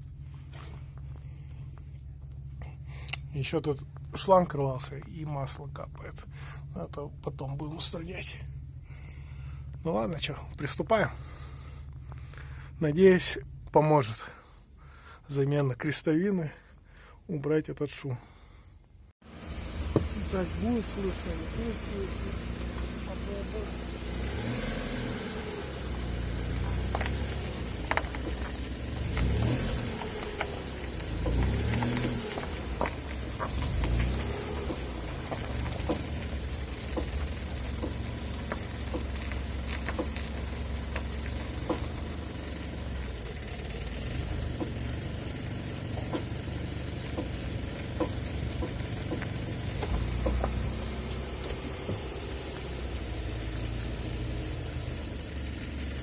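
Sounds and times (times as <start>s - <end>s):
car engine running: 0.0s - 15.9s, 18.2s - 56.0s.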